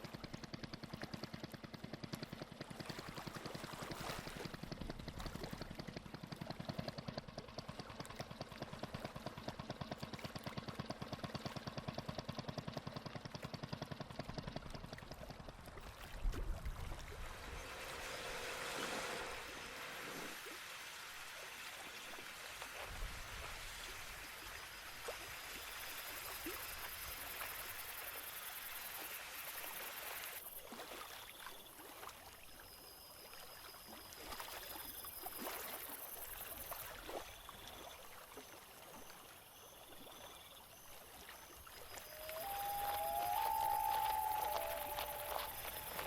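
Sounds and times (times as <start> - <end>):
water lapping and trickling: 0.0 - 46.0
small water splashes: 2.1 - 29.0, 29.6 - 46.0.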